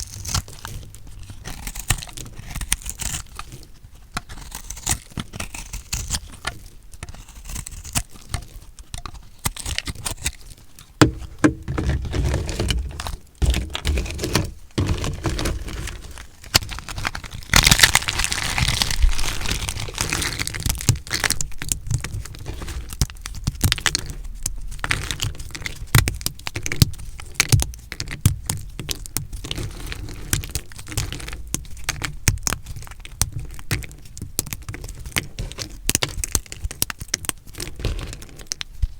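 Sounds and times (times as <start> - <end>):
blade crunching through soap: 0.0 - 38.7.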